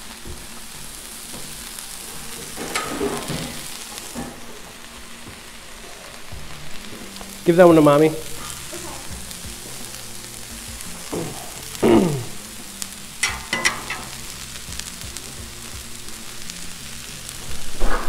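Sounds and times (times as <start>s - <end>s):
vegetables sizzling on a griddle: 0.0s - 18.0s.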